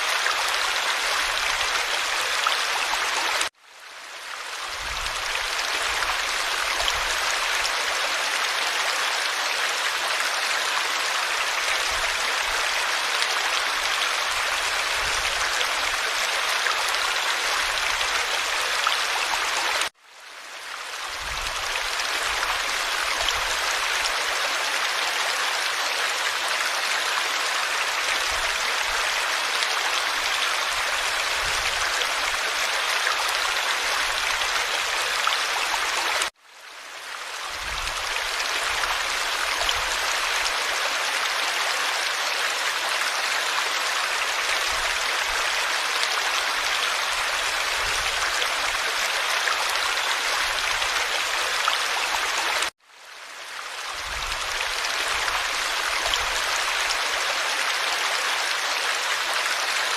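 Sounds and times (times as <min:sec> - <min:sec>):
stream water running over rocks: 0:00.0 - 0:59.9.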